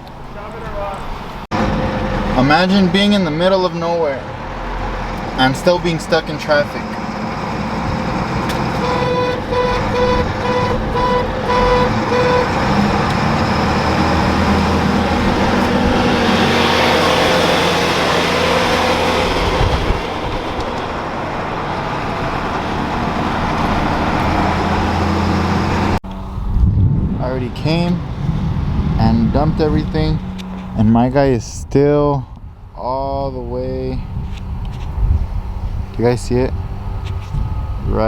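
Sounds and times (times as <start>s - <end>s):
truck engine and road noise: 0.0s - 38.0s.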